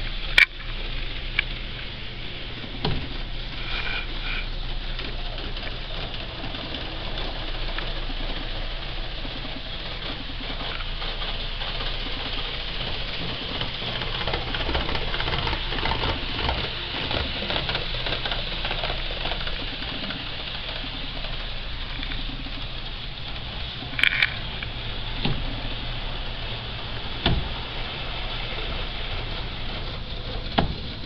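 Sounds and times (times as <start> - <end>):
wheels clicking on track: 0.0 - 31.0.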